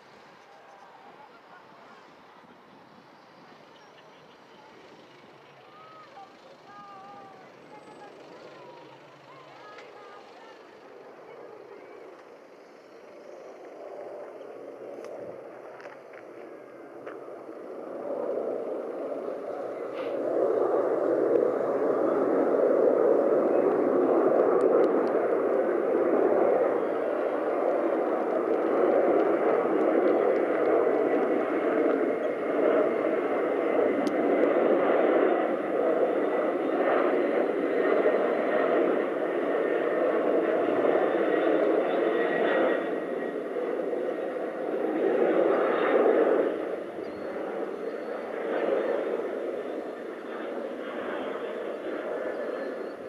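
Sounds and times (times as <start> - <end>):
jet aircraft passing overhead: 0.0 - 53.0.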